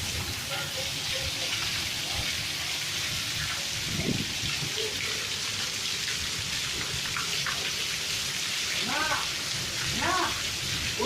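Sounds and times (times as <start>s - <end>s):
rain and hail falling: 0.0s - 11.0s.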